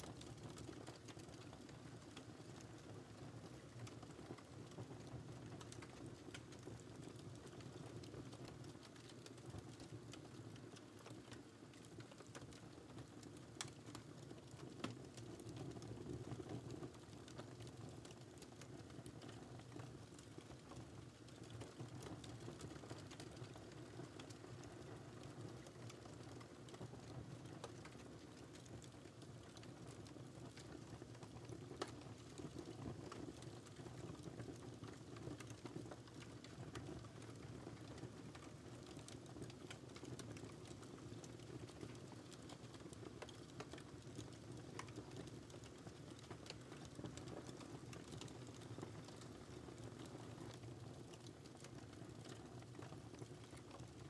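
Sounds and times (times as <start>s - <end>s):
fire snapping and popping: 0.0s - 54.0s.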